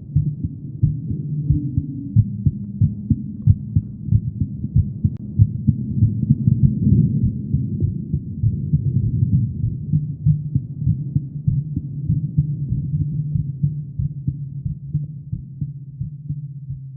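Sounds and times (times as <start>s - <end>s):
heartbeat thumps: 0.0s - 16.9s.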